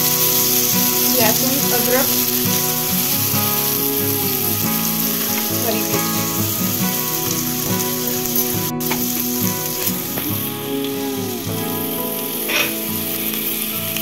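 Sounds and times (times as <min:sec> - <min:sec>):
background music: 0:00.0 - 0:14.0
vegetables sizzling in oil: 0:00.0 - 0:14.0.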